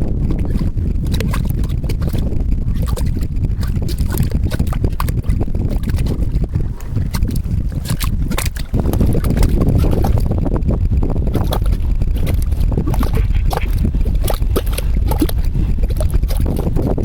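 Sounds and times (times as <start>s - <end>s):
low rumble: 0.0s - 17.0s
mud bubbling and popping: 0.0s - 17.0s.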